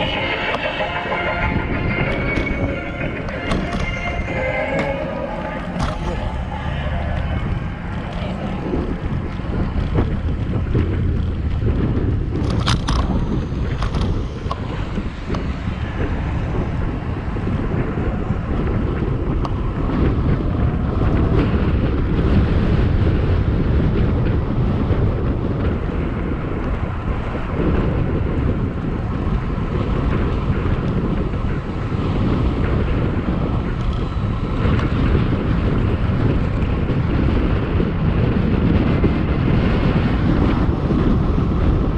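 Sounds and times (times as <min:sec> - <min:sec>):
low rumble of riding noise: 0:00.0 - 0:41.9
wind buffeting microphone: 0:00.0 - 0:41.9.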